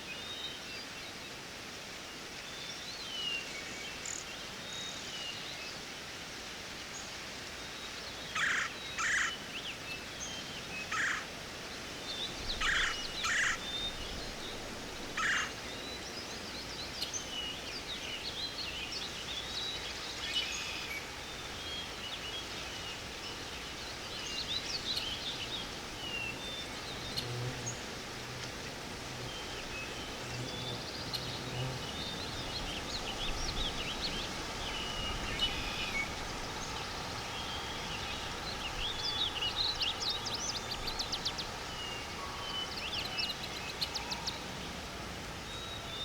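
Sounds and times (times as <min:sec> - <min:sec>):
steady outdoor hiss: 0:00.0 - 0:46.0
songbirds chirping: 0:07.0 - 0:46.0.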